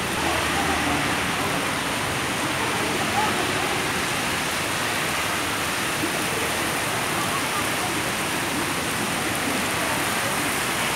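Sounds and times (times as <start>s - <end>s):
heavy rain on pavement: 0.0s - 10.9s.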